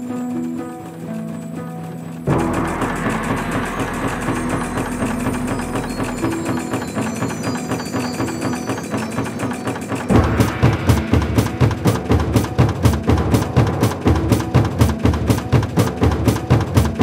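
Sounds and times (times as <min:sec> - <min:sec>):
mechanical clatter: 0:00.0 - 0:17.0
steady tones: 0:00.0 - 0:17.0
heavy thumping beat: 0:02.3 - 0:17.0.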